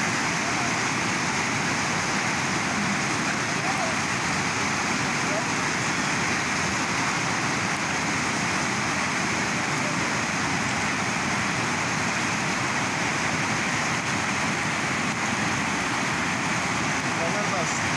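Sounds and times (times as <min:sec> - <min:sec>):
river rushing over rocks: 0:00.0 - 0:17.9.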